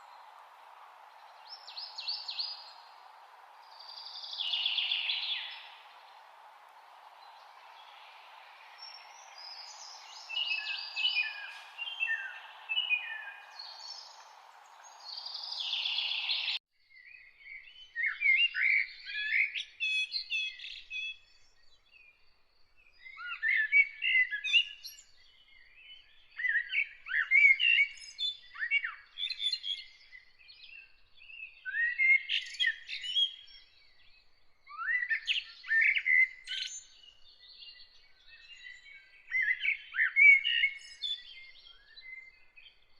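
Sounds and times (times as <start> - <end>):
songbirds singing: 0.0 - 42.9.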